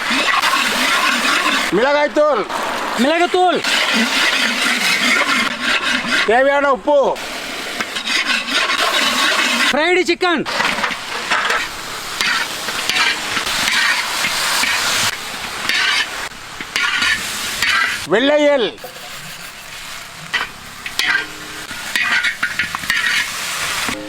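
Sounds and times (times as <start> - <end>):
sauce sizzling in pan: 0.0 - 9.8, 10.4 - 24.0
spatula scraping pan: 0.0 - 9.8, 10.5 - 24.0.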